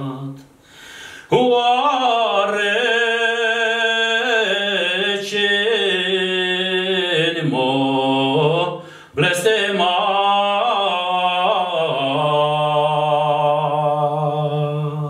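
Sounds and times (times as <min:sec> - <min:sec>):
man singing a slow lament: 0:00.0 - 0:00.5, 0:01.2 - 0:15.0.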